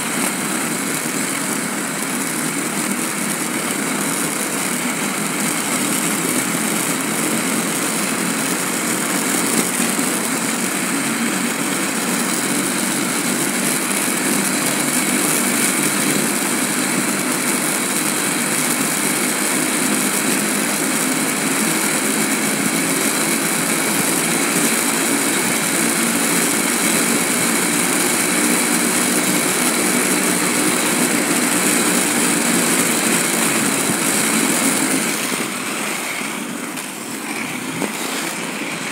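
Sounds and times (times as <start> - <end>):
skate wheels rolling over asphalt: 0.0 - 38.9.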